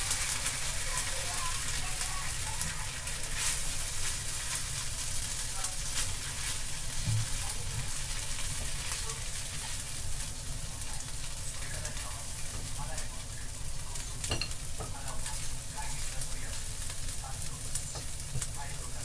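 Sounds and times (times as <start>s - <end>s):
faint crackles: 0.0s - 19.0s
noodles sizzling in a frying pan: 0.0s - 19.0s.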